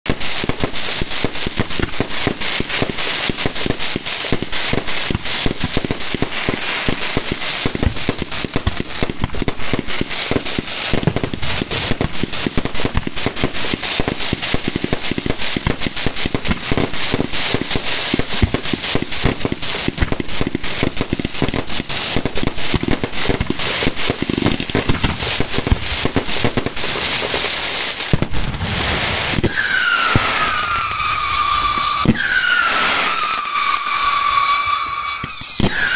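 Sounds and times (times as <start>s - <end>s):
fireworks crackling and banging: 0.0s - 35.9s.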